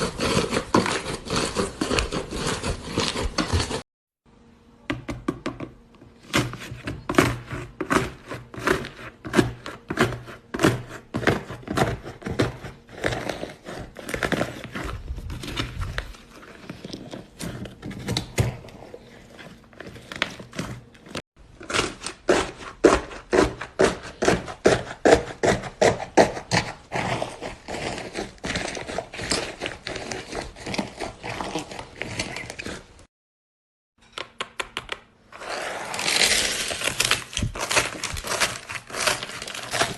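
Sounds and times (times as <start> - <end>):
crunchy slime squished and crackling: 0.0 - 3.9, 7.0 - 33.0, 35.4 - 39.9.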